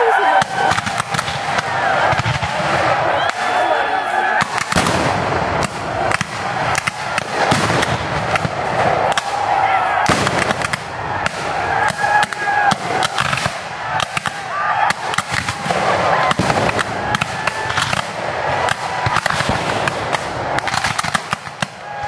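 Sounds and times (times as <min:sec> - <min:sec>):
musket shots: 0:00.4 - 0:03.5, 0:04.4 - 0:22.0.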